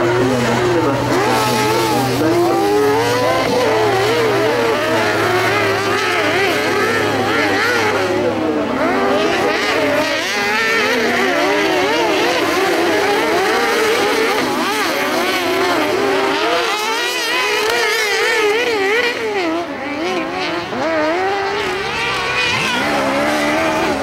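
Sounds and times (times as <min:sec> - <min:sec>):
buggy engines revving: 0:00.0 - 0:24.0.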